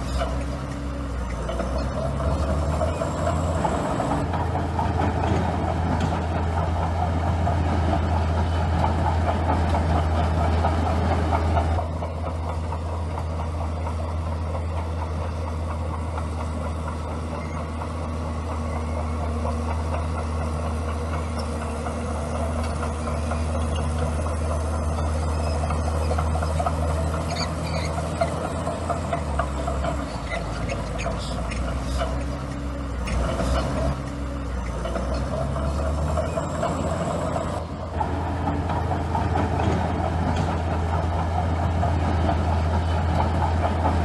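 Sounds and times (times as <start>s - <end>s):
bulldozer diesel engine drone: 0.0s - 44.0s.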